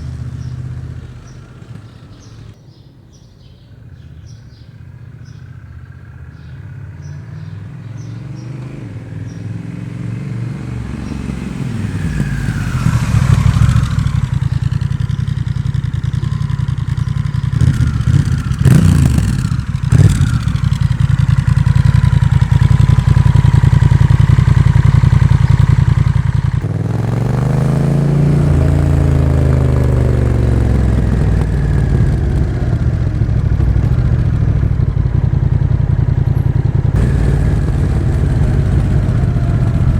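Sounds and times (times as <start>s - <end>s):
motorcycle engine revving: 0.0s - 2.6s, 3.9s - 39.9s.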